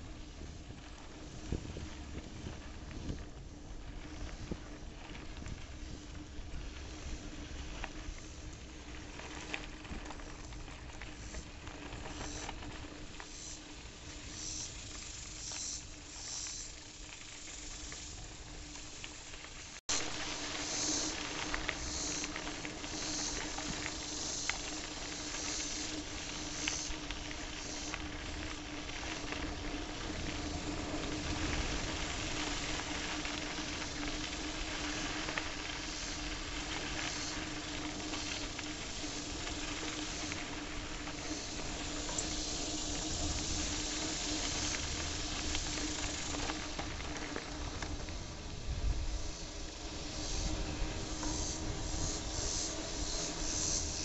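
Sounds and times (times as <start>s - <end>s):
bike tyres rolling on gravel: 0.0s - 54.0s.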